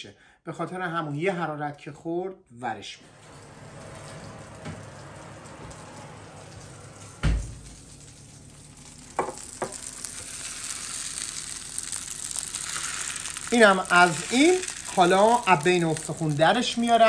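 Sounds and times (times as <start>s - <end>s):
fat sizzling on baking tray: 3.2s - 17.0s.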